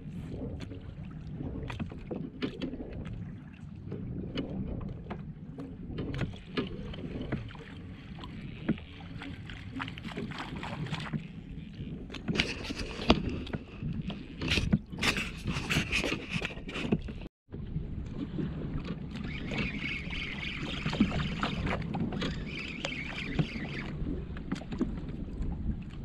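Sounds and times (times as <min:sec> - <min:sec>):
water lapping against hull: 0:00.0 - 0:26.0
small knocks and clicks on boat: 0:01.6 - 0:17.3, 0:18.0 - 0:26.0.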